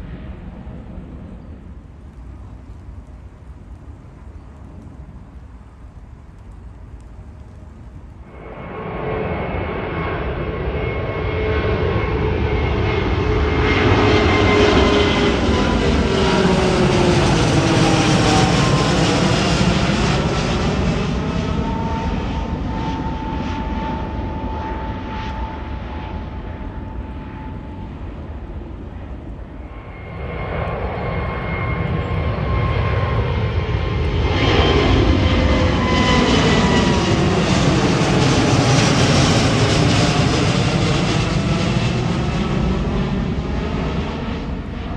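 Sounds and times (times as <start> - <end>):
jet airliner climbing overhead: 0.0 - 44.9.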